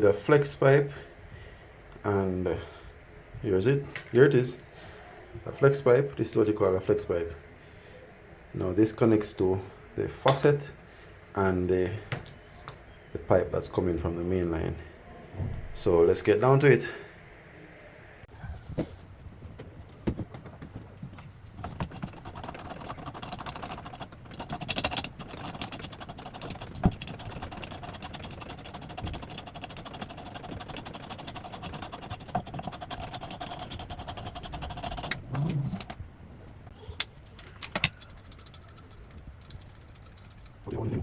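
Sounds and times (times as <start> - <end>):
faint hum: 0.0 - 41.0.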